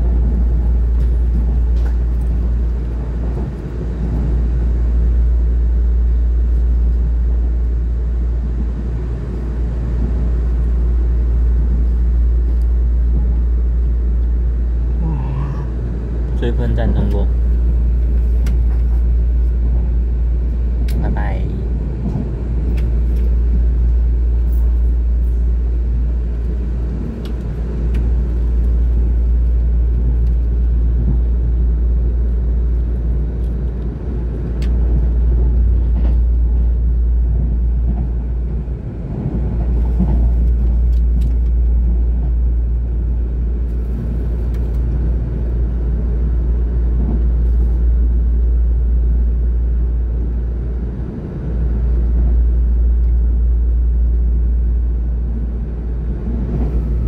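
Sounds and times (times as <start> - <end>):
train rumble inside carriage: 0.0 - 57.0.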